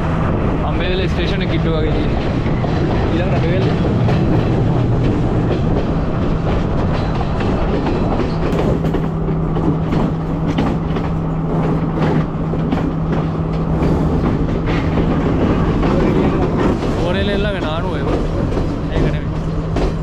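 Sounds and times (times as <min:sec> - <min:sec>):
train rumbling on track: 0:00.0 - 0:20.0
wheels clicking over rail joints: 0:01.0 - 0:20.0.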